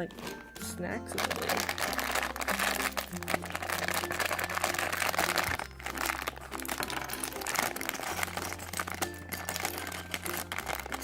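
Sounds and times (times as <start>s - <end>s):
plastic bags crinkling: 0.0s - 11.0s
quiet background music: 0.0s - 11.0s.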